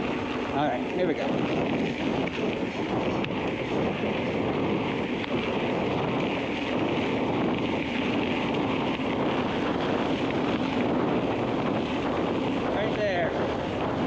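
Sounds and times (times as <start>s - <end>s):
tyres humming on gravel: 0.0s - 14.0s
wind rushing over microphone: 0.0s - 14.0s.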